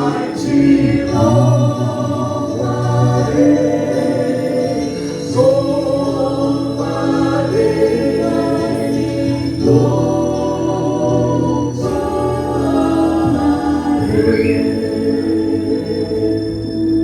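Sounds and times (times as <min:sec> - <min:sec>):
ensemble playing sustained chords: 0:00.0 - 0:17.0.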